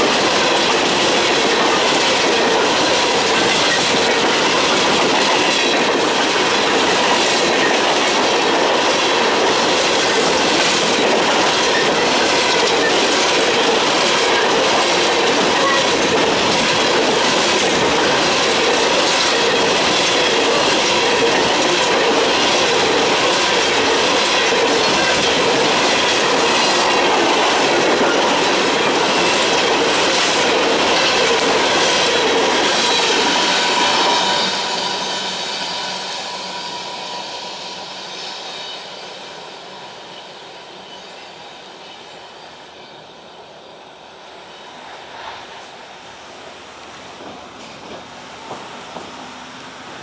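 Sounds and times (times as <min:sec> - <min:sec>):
train wheels clacking on track: 0:00.0 - 0:43.6, 0:44.3 - 0:50.0
freight train rumble: 0:00.0 - 0:50.0.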